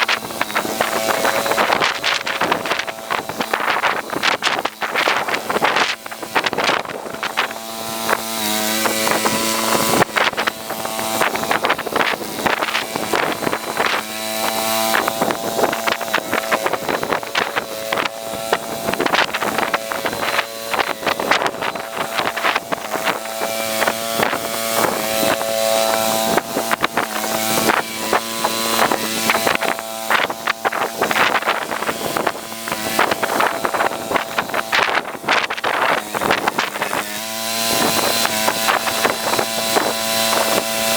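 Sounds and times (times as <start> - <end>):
garden tractor engine running: 0.0 - 40.9
wind buffeting microphone: 0.0 - 40.9.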